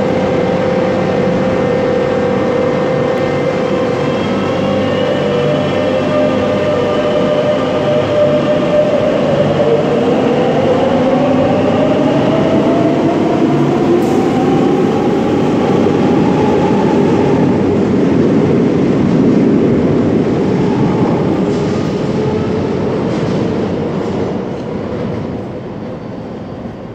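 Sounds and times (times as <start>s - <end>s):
train running on rails: 0.0s - 26.9s.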